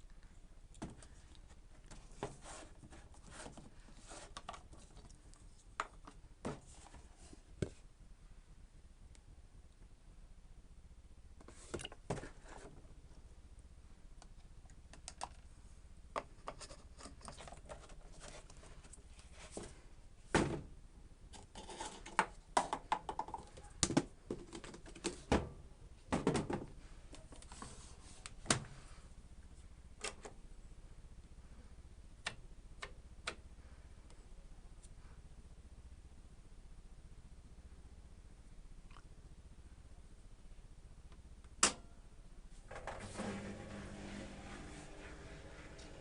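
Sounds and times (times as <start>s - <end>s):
faint low hum: 0.0s - 46.0s.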